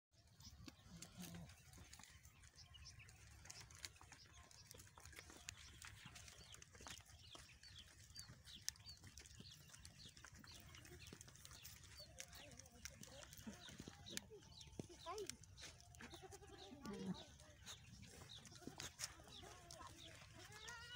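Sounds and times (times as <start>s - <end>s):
hooves clicking and rustling: 0.2s - 20.9s.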